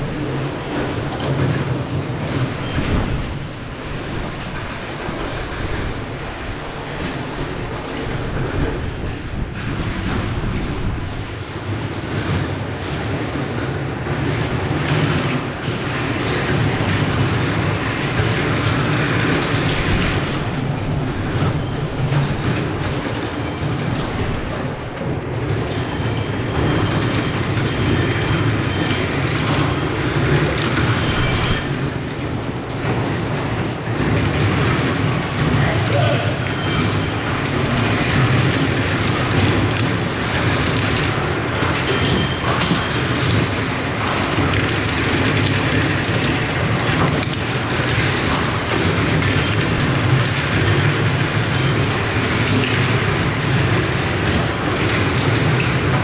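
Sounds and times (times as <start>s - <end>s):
factory machinery rattling: 0.0s - 56.0s.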